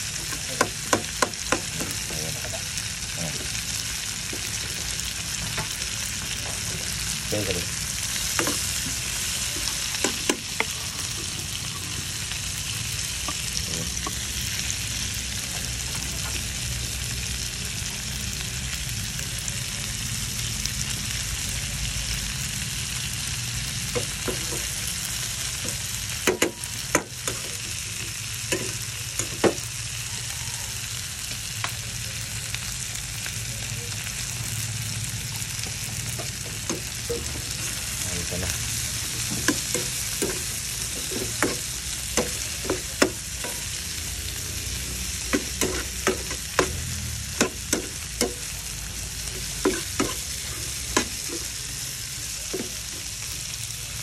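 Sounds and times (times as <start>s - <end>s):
shrimp sizzling in hot oil: 0.0s - 54.0s.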